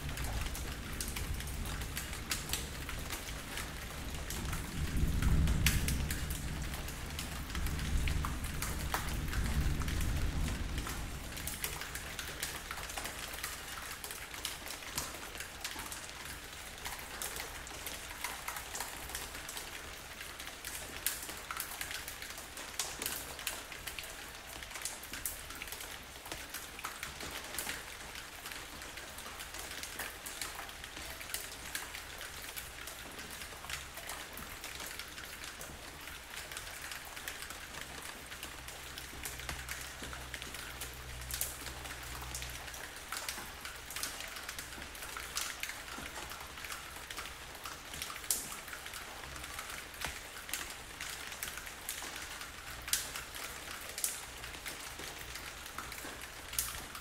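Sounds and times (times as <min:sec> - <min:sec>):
raindrops ticking: 0:00.0 - 0:57.0
steady rain: 0:00.0 - 0:57.0.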